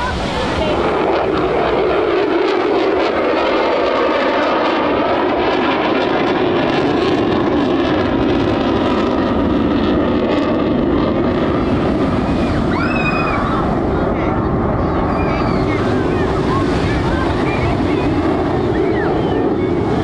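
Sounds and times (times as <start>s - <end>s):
loud jet roar: 0.0s - 20.0s.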